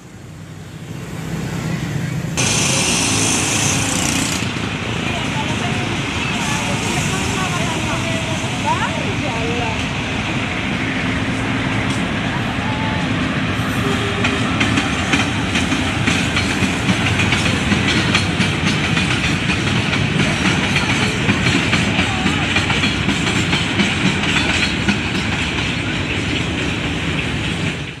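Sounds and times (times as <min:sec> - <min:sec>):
train wheels clickety-clack: 0:02.4 - 0:10.0, 0:11.4 - 0:12.3, 0:13.8 - 0:28.0.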